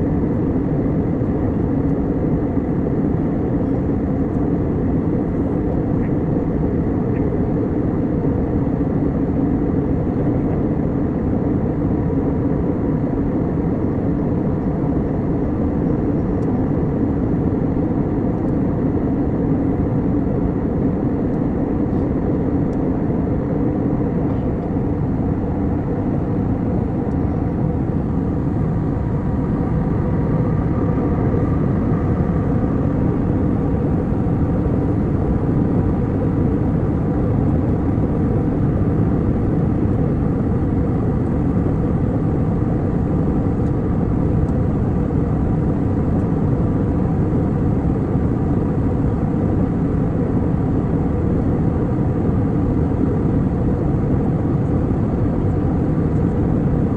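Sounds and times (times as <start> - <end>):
faint hum tones: 0.0 - 56.9.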